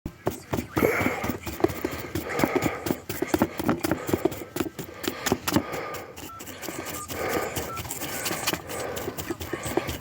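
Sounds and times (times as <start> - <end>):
heavy breathing: 0.3 - 10.0.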